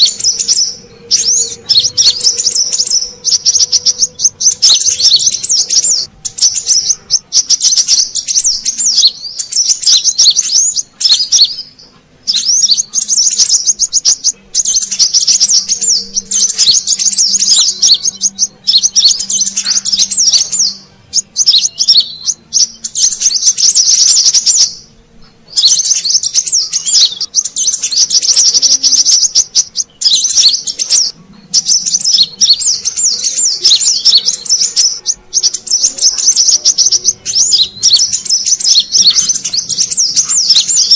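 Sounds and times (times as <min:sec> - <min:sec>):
birds twittering: 0:00.0 - 0:40.9.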